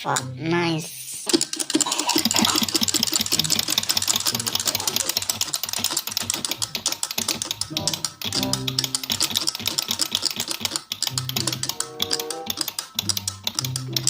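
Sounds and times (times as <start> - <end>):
wind-up toy gears clicking: 1.2 - 14.0.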